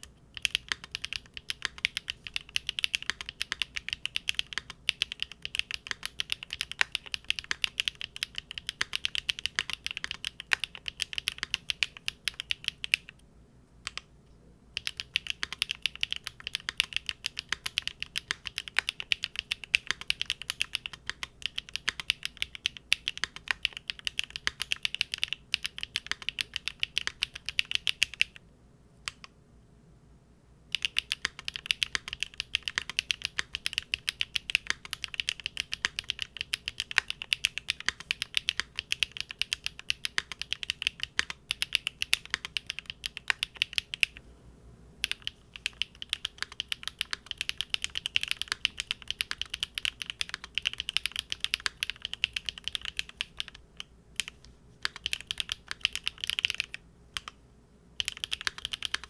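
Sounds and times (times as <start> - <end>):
mechanical keyboard typing: 0.0 - 13.2, 14.8 - 28.4, 30.7 - 44.2, 45.0 - 57.4, 58.0 - 59.0.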